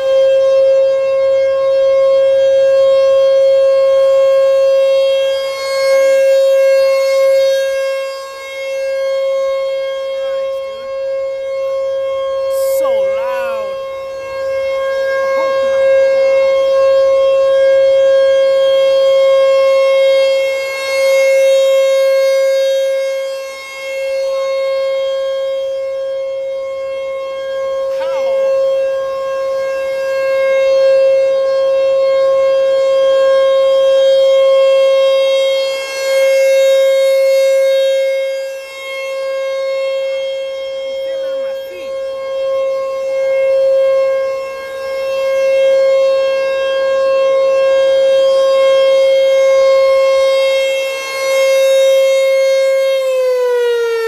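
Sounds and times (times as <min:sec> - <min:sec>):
tornado warning siren: 0:00.0 - 0:54.0.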